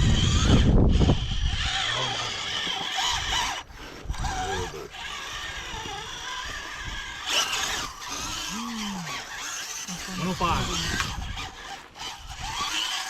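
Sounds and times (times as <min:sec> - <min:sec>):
wind noise: 0:00.0 - 0:02.1, 0:03.0 - 0:08.6, 0:10.0 - 0:12.9
small electric motor whining: 0:00.0 - 0:13.0.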